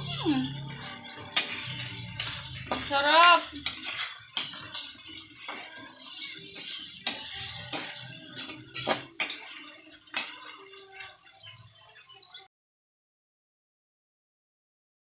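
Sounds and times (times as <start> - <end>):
shrimp sizzling in butter: 0.0 - 12.5
spatula scraping wok: 0.0 - 12.5.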